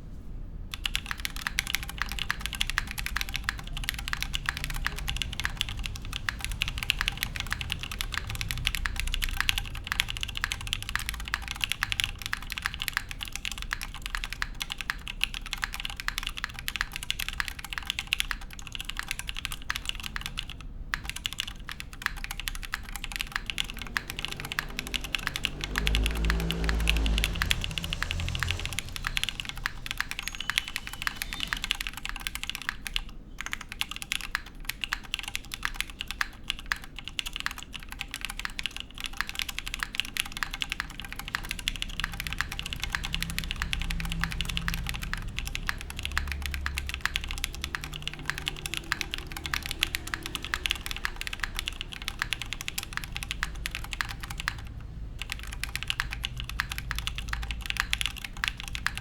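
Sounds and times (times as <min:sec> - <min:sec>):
mechanical keyboard typing: 0:00.7 - 0:59.0.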